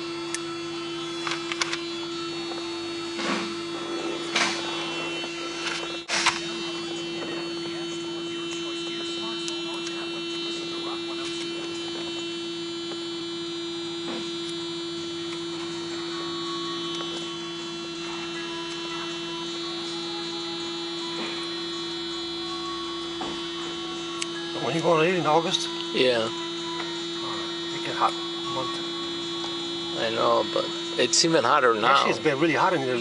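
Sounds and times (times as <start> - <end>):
steady electrical hum: 0.0 - 33.0.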